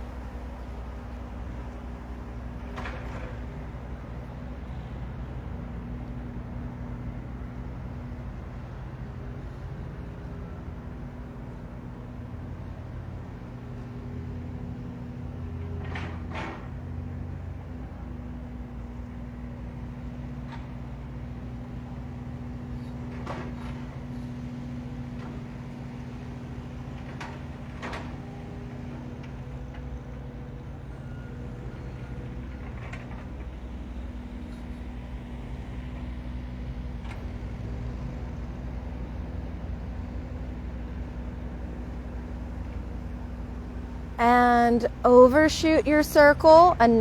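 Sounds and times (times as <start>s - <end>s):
construction machinery engine drone: 0.0s - 47.0s.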